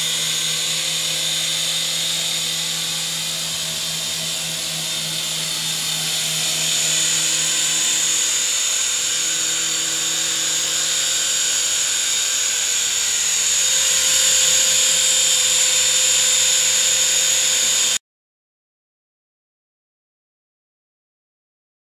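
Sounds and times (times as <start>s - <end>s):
toy helicopter rotors whining: 0.0s - 18.0s.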